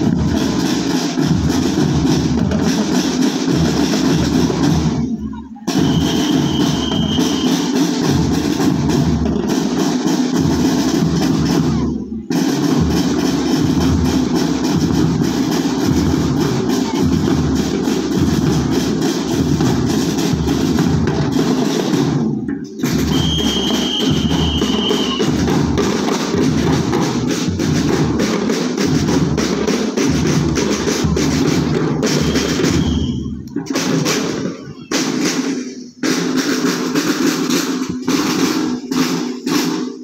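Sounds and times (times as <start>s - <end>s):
snare and bass drums playing: 0.0s - 40.0s.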